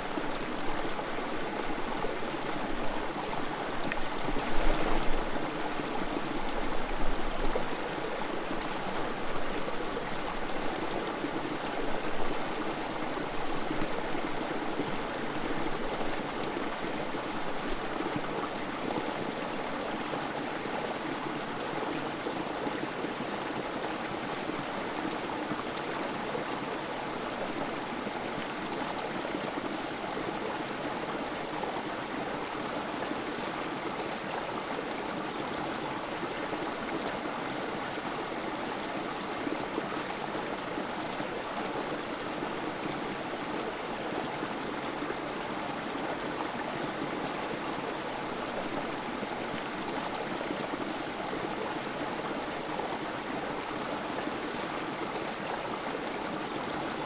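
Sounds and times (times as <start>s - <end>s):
creek water trickling over rocks: 0.0s - 57.0s.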